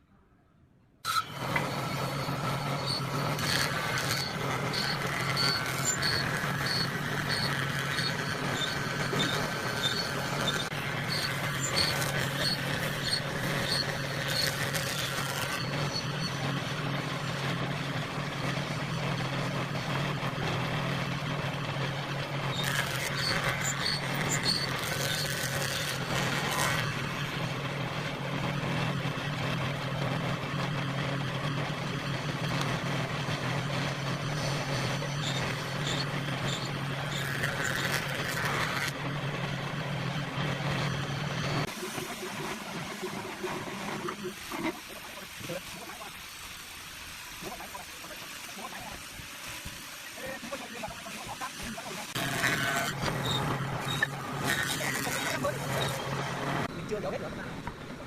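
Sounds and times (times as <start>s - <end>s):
motor humming: 1.1s - 58.0s.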